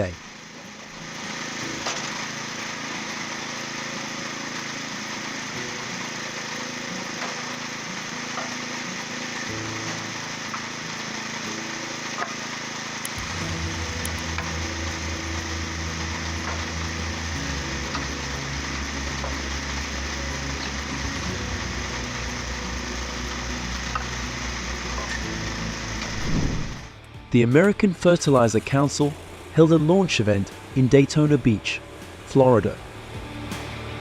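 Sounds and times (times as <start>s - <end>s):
wood grinder engine drone: 0.0s - 34.0s.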